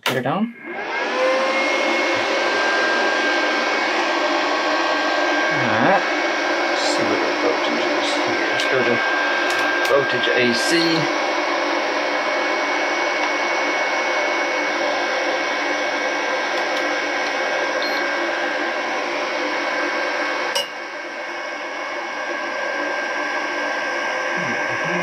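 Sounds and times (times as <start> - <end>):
fan whirring: 0.6 - 25.0.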